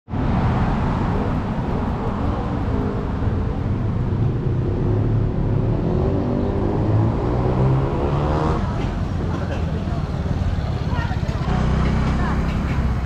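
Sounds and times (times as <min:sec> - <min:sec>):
vehicle engines running: 0:00.1 - 0:13.0.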